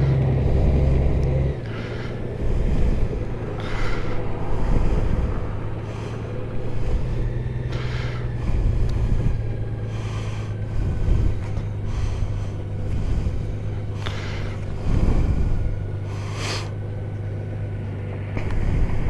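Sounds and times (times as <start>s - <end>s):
motorcycle engine humming: 0.0s - 19.0s
wind noise: 0.0s - 19.0s.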